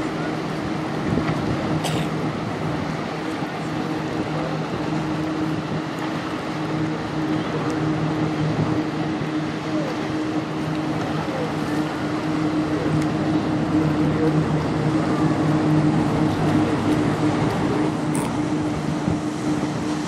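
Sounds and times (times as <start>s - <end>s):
bow wave rushing water: 0.0s - 20.0s
ship engine droning: 0.0s - 20.0s.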